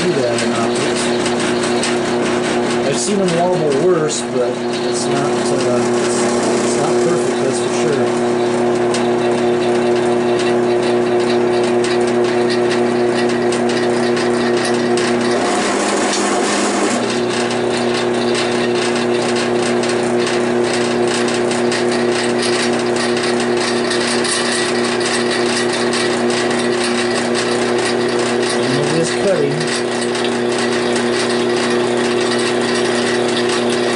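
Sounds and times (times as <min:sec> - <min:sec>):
drill bit scraping steel: 0:00.0 - 0:33.9
drill press motor hum: 0:00.0 - 0:33.9.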